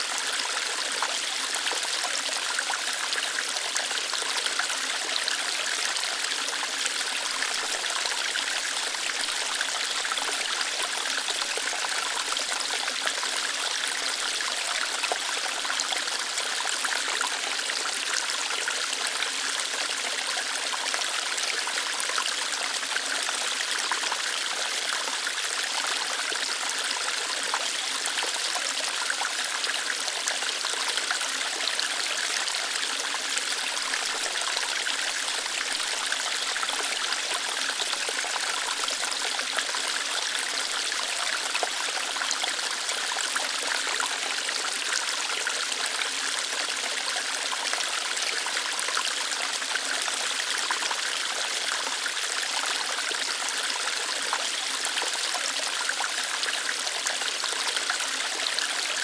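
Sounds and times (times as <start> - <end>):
water flowing over rocks: 0.0 - 59.0.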